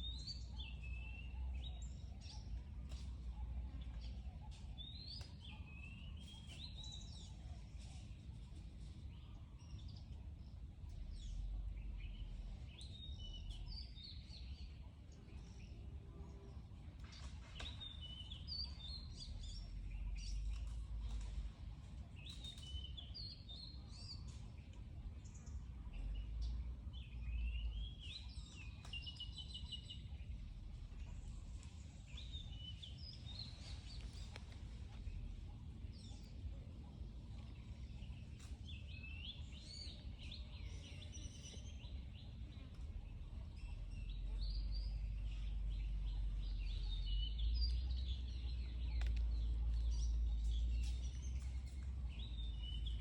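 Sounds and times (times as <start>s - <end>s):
birds chirping and trilling: 0.0s - 53.0s.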